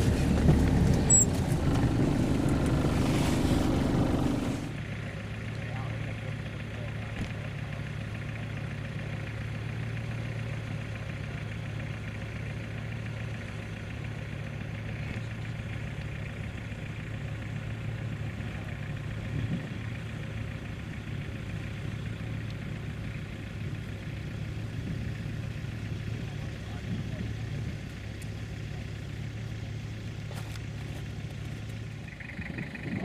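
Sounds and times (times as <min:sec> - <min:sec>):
vehicle engines idling: 0:00.0 - 0:33.0.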